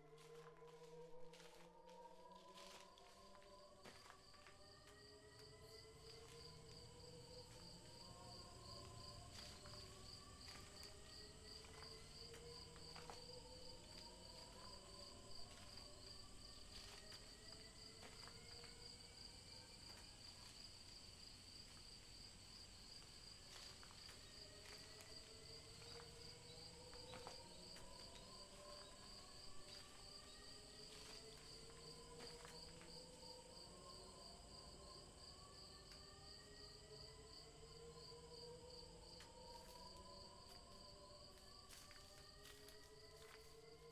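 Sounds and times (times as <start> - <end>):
crickets chirping: 5.0 - 43.9.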